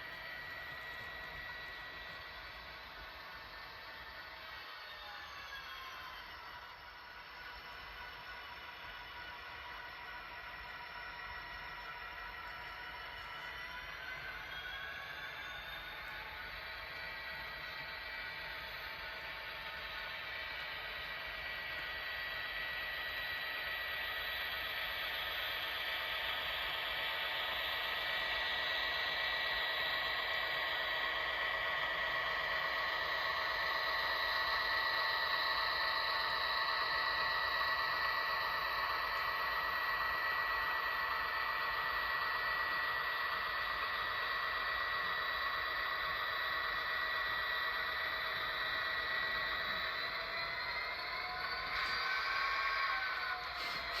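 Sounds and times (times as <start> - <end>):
model train running on track: 0.0 - 54.0.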